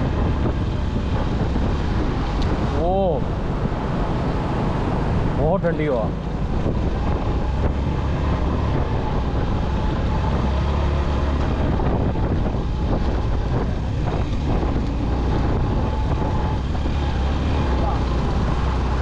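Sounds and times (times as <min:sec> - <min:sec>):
wind on microphone: 0:00.0 - 0:05.4, 0:06.0 - 0:19.0
motorcycle engine drone: 0:00.0 - 0:19.0.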